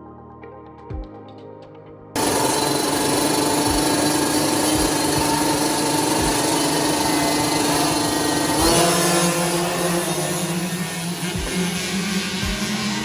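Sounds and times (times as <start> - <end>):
dirt bike engine high revs: 2.2 - 13.0.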